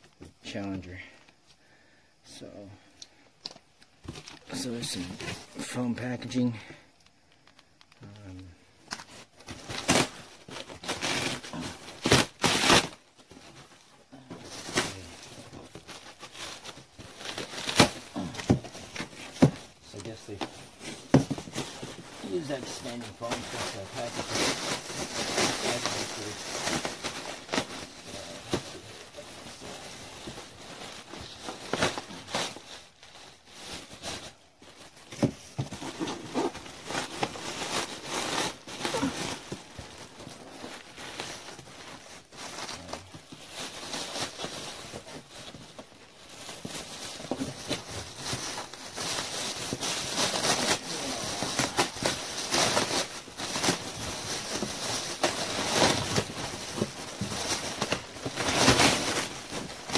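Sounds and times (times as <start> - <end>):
plastic film and foam rustling: 0.0 - 59.9.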